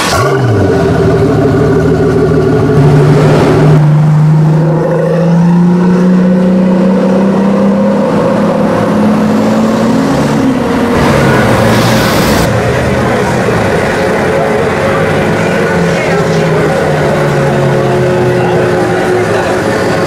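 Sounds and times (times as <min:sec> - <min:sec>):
sports car engine pulling away: 0:00.0 - 0:20.0.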